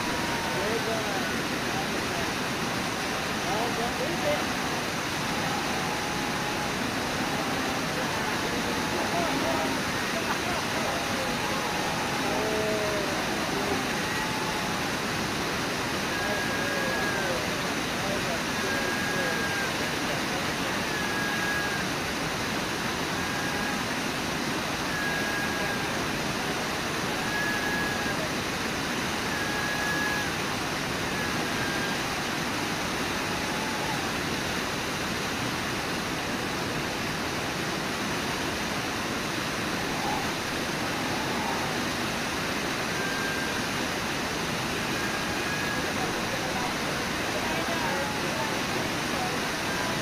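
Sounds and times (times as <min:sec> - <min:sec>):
faint high-pitched calls: 0:00.0 - 0:34.8, 0:39.8 - 0:50.0
waterfall roaring: 0:00.0 - 0:50.0.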